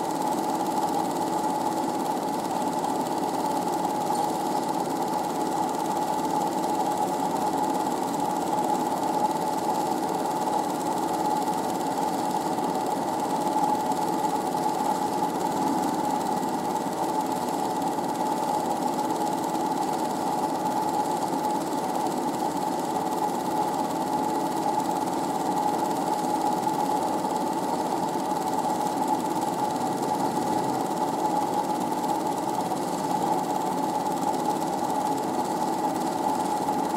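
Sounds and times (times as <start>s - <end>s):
film projector clattering: 0.0s - 36.9s.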